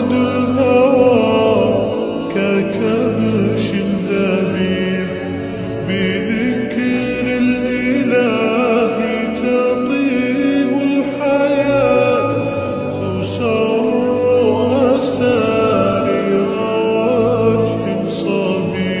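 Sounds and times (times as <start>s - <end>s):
person singing devotional song: 0.0s - 19.0s.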